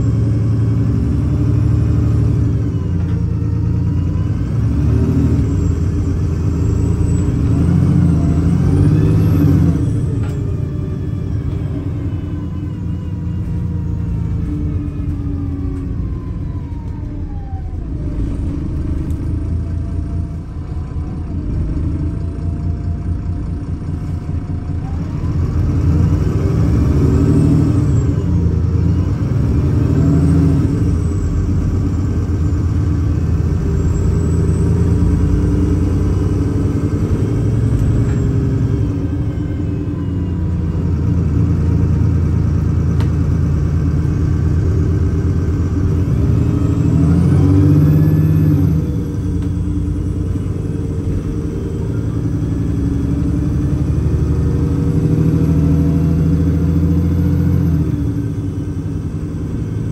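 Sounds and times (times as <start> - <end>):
bus engine droning: 0.0 - 59.9
gliding drivetrain whine: 0.0 - 59.9.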